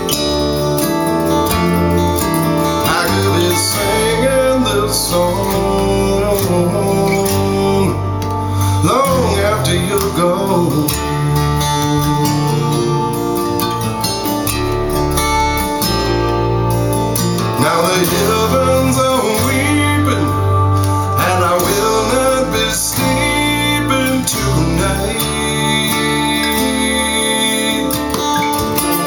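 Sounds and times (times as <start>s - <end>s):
acoustic guitar song over speakers: 0.0s - 29.0s.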